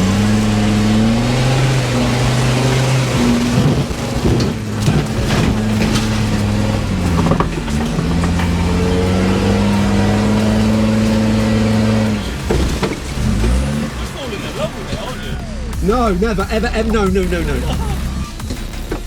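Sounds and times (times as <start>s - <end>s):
car engine running: 0.0s - 19.0s
knocks and clatters: 0.0s - 19.0s.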